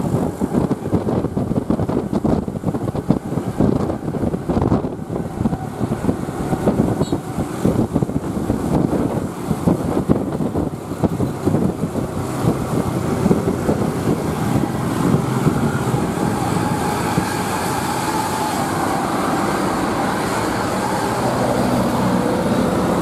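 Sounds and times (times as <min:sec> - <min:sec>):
heavy vehicle engine running: 0:00.0 - 0:23.0
road traffic: 0:00.0 - 0:23.0.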